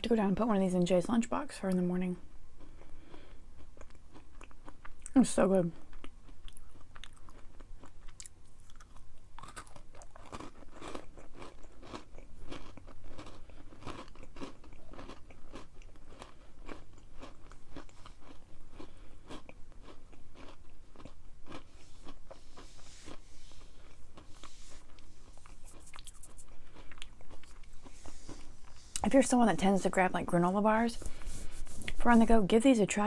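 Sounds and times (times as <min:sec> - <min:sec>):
chewing crunchy granola: 0:01.8 - 0:32.4.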